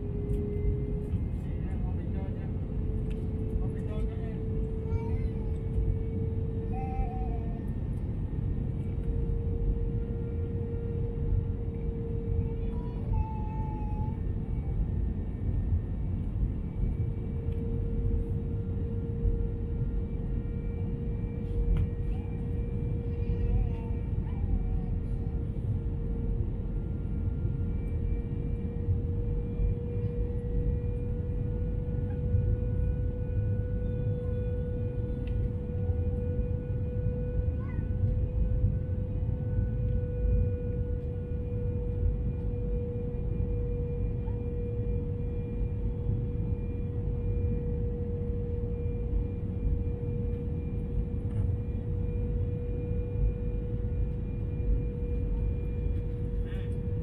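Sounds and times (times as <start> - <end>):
low rumble of engines and airflow: 0.0 - 57.0
mid-pitched hum: 0.0 - 57.0.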